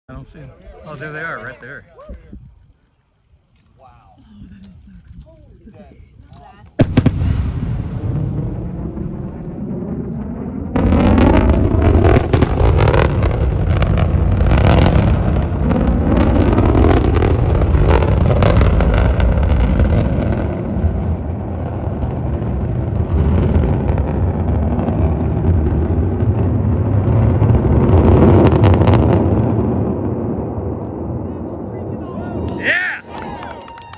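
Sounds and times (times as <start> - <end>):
distant rocket engine roar: 6.7 - 33.9.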